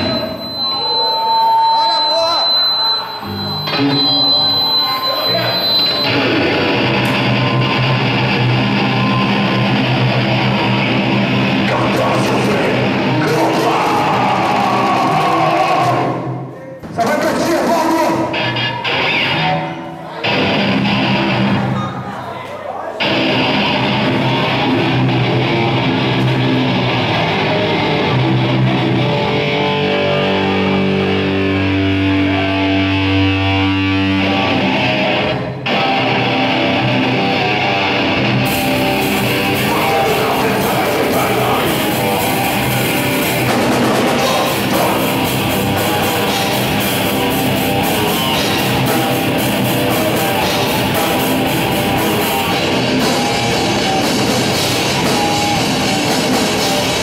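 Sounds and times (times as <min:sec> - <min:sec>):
distorted guitar chords: 0:00.0 - 0:16.4, 0:17.7 - 0:21.8, 0:23.0 - 0:57.0
heavy band playing: 0:00.0 - 0:22.2, 0:22.9 - 0:57.0.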